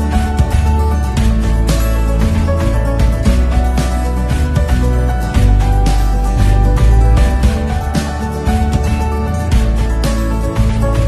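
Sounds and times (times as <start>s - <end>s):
music with bass and beat: 0.0s - 11.0s.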